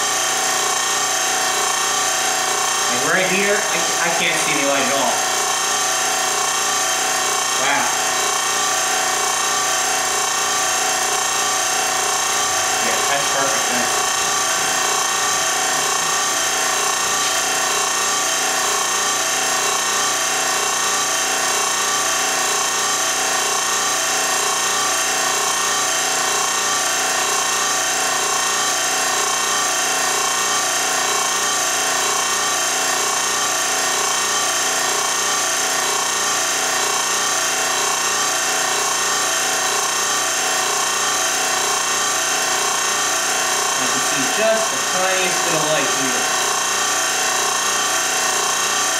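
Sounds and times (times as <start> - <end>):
machine motor whirring hum: 0.0 - 48.9.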